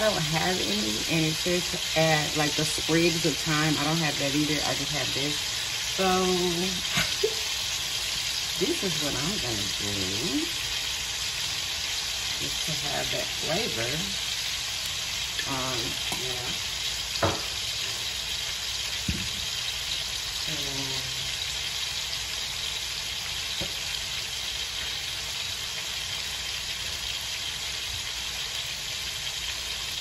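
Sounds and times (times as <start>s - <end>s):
meat sizzling in a skillet: 0.0s - 30.0s.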